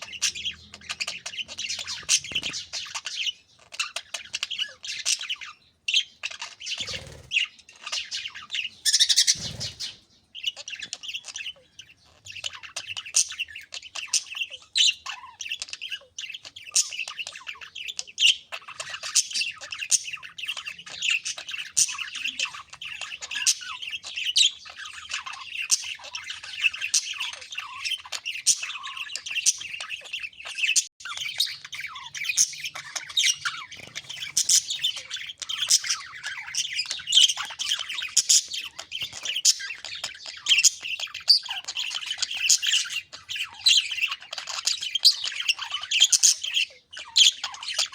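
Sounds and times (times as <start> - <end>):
budgerigars chattering and chirping: 0.0 - 47.9.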